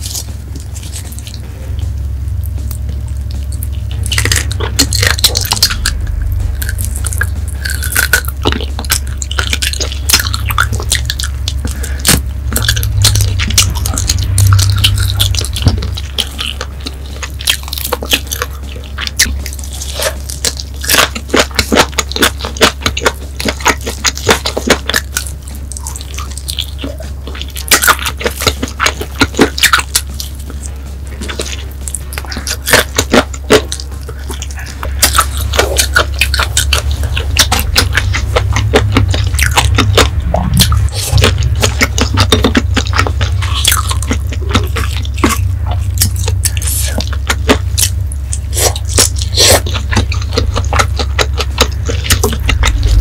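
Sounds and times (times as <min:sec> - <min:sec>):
wet chewing and sucking: 0:00.0 - 0:01.5, 0:02.5 - 0:53.0
low hum: 0:00.0 - 0:53.0.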